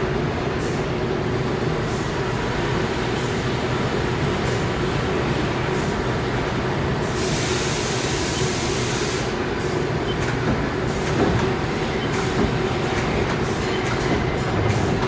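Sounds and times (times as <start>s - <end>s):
lathe mechanical hum: 0.2s - 15.0s.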